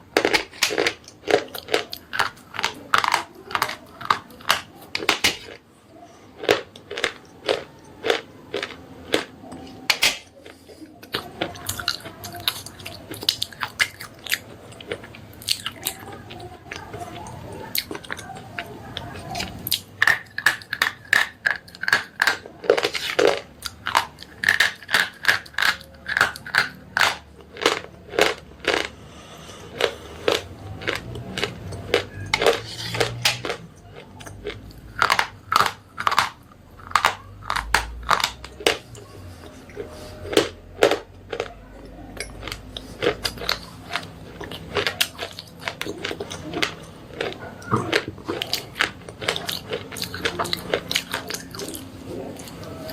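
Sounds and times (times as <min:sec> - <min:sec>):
chewing with dry crunches: 0:00.0 - 0:52.9.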